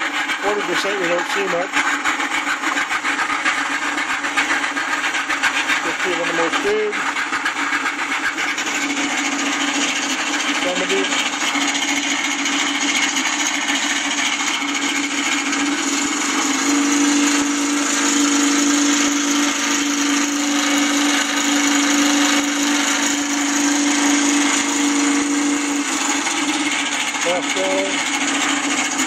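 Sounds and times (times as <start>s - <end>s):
simulated radial engine droning: 0.0s - 29.0s.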